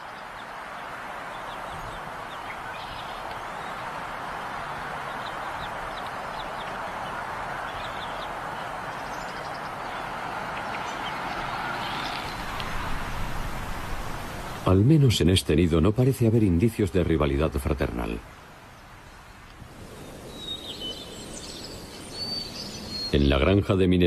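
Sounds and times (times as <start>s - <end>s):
steady rushing noise: 0.0s - 23.2s.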